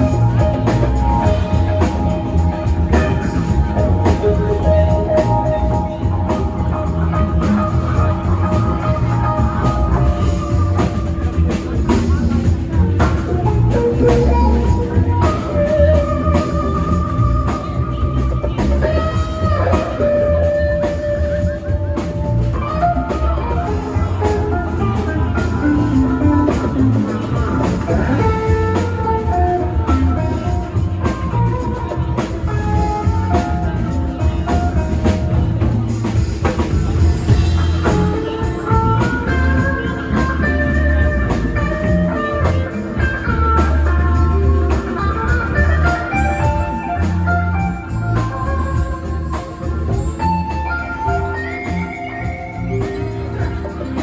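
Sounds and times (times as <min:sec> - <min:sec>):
bass guitar: 0:00.0 - 0:54.0
drum kit: 0:00.0 - 0:54.0
lead guitar melody: 0:00.0 - 0:54.0.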